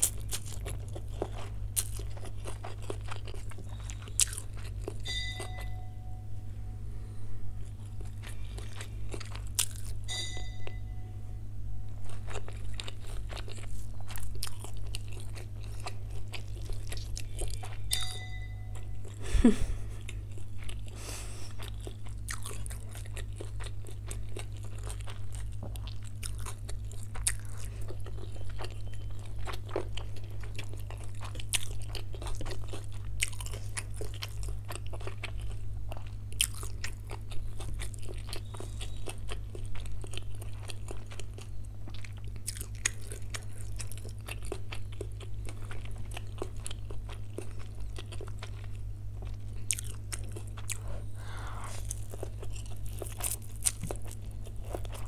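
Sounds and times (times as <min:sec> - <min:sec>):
mouth chewing food: 0:00.0 - 0:05.8, 0:07.6 - 0:10.8, 0:12.0 - 0:55.0
steady low hum: 0:00.0 - 0:55.0.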